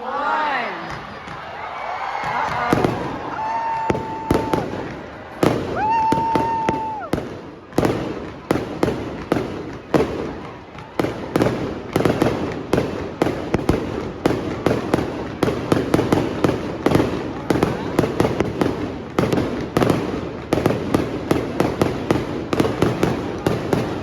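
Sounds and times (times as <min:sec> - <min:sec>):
fireworks bangs and crackles: 0:00.8 - 0:24.0.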